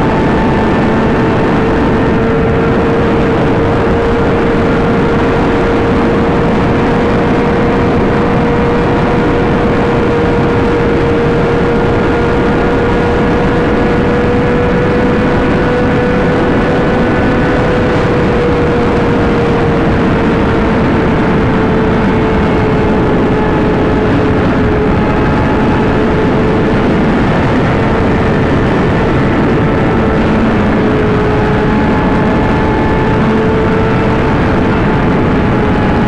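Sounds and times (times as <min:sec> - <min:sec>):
motorcycle engine at high revs: 0:00.0 - 0:36.0
wind rushing on microphone: 0:00.0 - 0:36.0.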